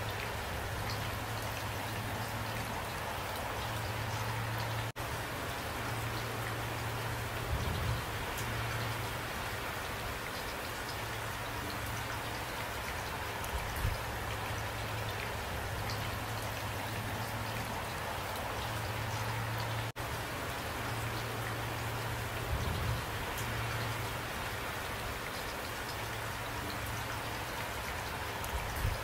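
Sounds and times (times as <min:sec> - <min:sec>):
rain drop ticks: 0:00.0 - 0:29.0
steady rain hiss: 0:00.0 - 0:29.0.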